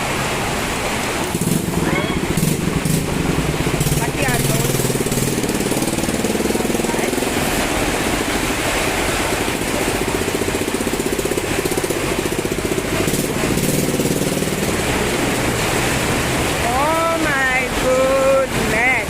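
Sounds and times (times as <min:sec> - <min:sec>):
heavy rain pouring: 0:00.0 - 0:19.0
pulsing motor drone: 0:01.2 - 0:18.5.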